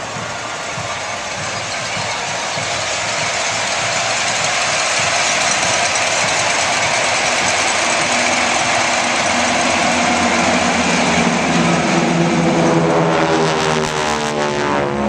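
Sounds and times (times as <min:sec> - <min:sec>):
constant wash of noise: 0:00.0 - 0:15.0
propeller plane engine drone: 0:00.0 - 0:15.0.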